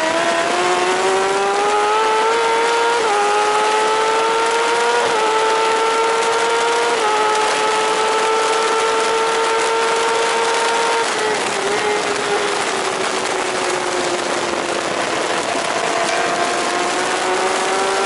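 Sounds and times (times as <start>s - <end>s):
motorcycle engine at full throttle: 0.0s - 18.0s
wind rushing over microphone: 0.0s - 18.0s.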